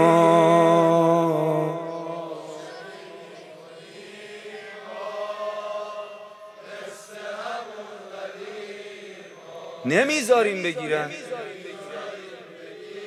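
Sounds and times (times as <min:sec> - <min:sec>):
crowd of men chanting: 0:01.4 - 0:13.0.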